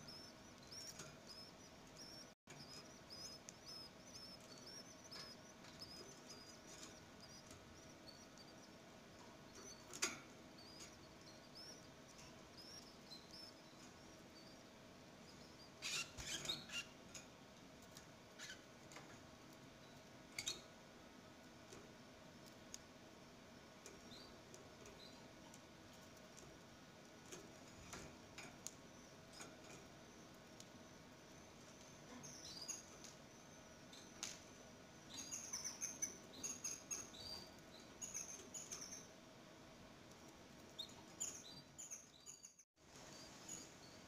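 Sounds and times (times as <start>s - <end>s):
nestlings peeping: 0.0s - 44.0s.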